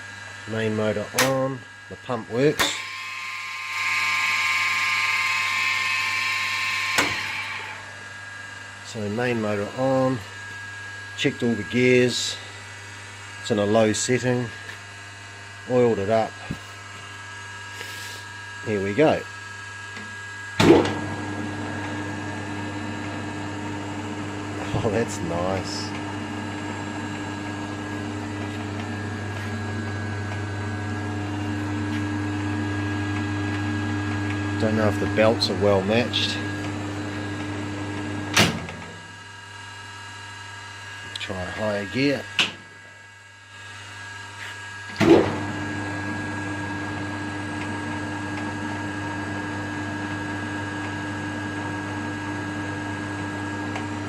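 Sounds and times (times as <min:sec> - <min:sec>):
lathe motor humming and whirring: 0:00.0 - 0:54.0.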